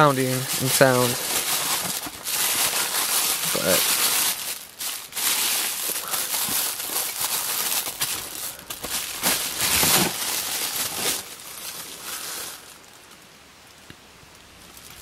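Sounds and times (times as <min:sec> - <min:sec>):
plastic bag crinkling: 0:00.0 - 0:13.2, 0:14.6 - 0:15.0.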